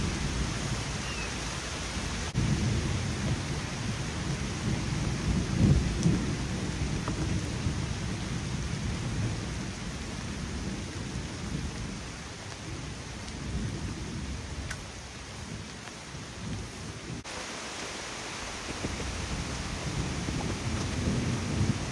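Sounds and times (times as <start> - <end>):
steady rain: 0.0 - 21.9
thunder rumbling: 0.0 - 21.9.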